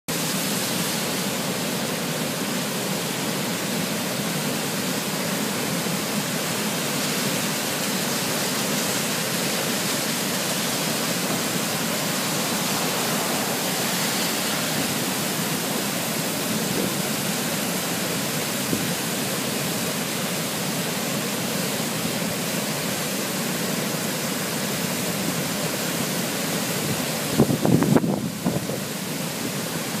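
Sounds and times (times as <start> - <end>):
water rushing over spillway: 0.1 - 30.0.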